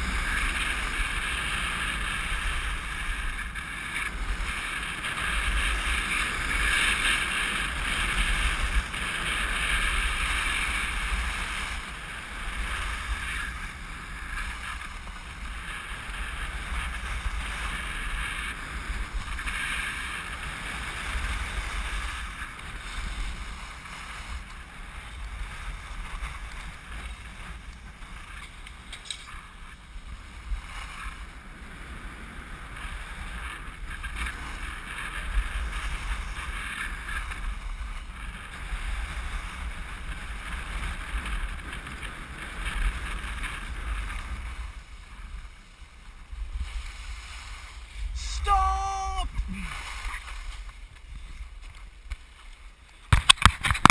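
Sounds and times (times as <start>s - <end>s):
skis sliding on snow: 0.0s - 48.4s, 49.4s - 53.8s.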